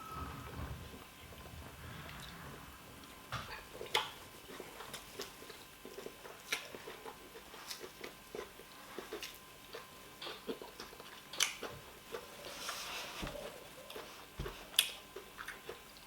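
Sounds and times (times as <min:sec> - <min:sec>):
chewing food: 0:01.1 - 0:16.0.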